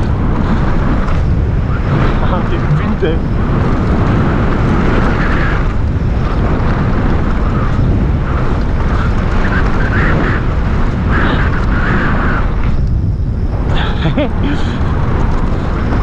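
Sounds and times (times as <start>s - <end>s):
mountain bike rolling on trail: 0.0s - 16.0s
wind buffeting microphone: 0.0s - 16.0s.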